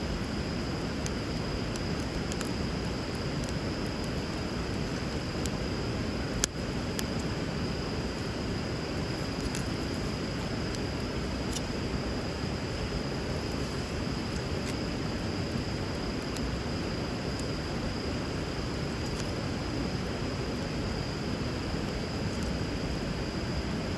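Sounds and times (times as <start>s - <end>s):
wood fire crackling: 0.1s - 23.9s.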